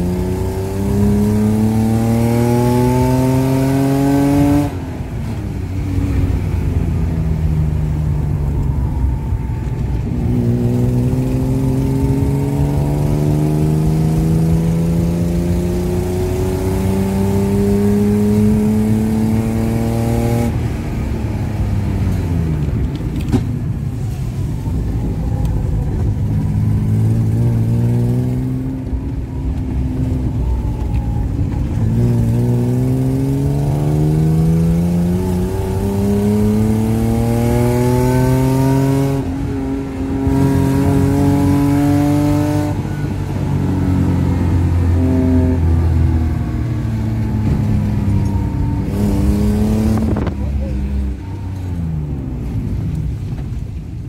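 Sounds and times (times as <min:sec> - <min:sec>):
car engine revving: 0:00.0 - 0:53.4.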